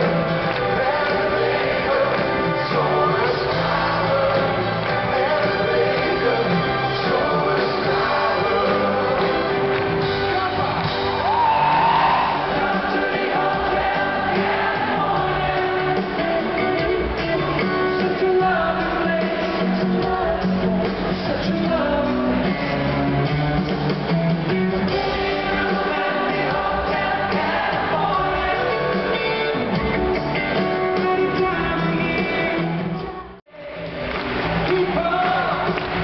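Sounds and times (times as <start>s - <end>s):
song with singing over instruments: 0.0s - 36.0s.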